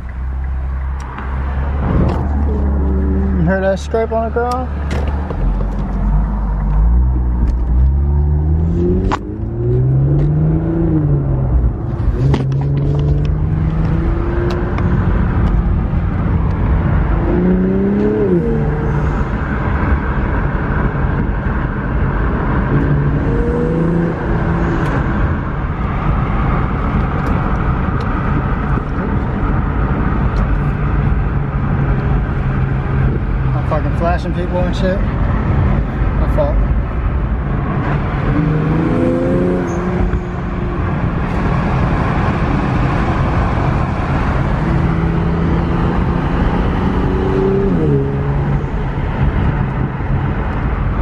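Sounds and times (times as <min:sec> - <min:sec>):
car engine accelerating: 0:00.0 - 0:51.0
road noise: 0:00.0 - 0:51.0.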